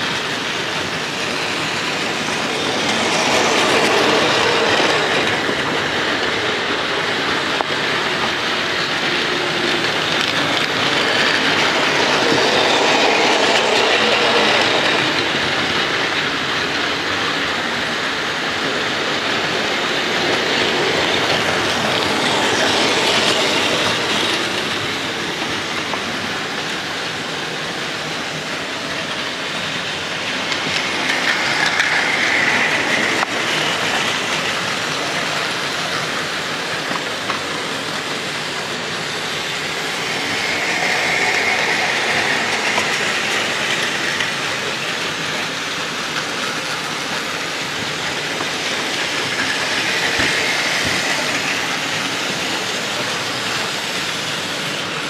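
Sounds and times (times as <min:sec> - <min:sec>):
toy trains running on plastic track: 0:00.0 - 0:55.0.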